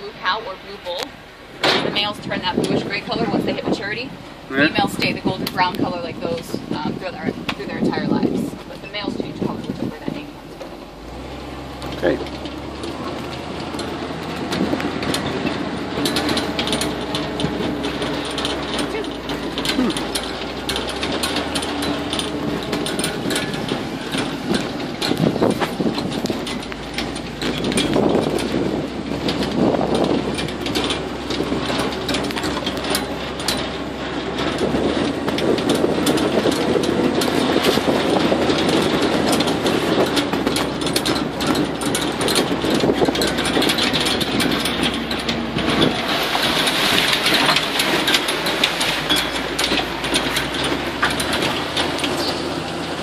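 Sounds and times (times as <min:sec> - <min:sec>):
swamp buggy engine running: 0:00.0 - 0:53.0
vehicle body rattling: 0:00.0 - 0:53.0.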